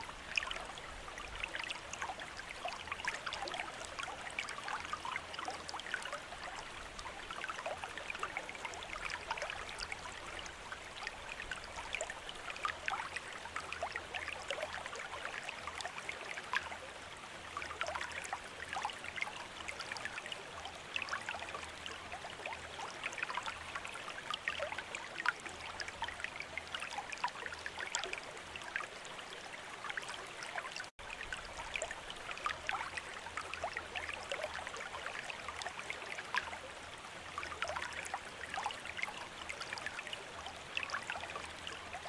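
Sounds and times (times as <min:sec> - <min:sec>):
fountain water trickling into basin: 0:00.0 - 0:42.0.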